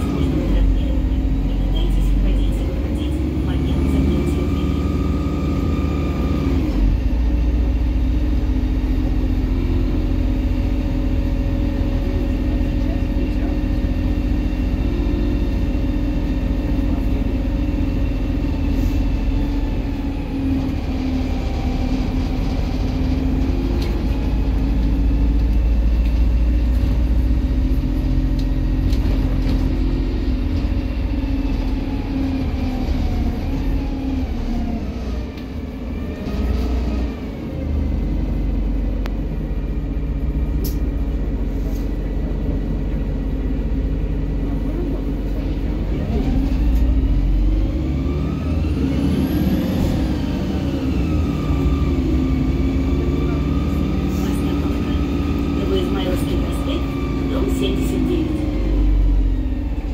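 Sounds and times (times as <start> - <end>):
bus engine and drivetrain drone: 0.0 - 59.9
road noise: 0.0 - 59.9.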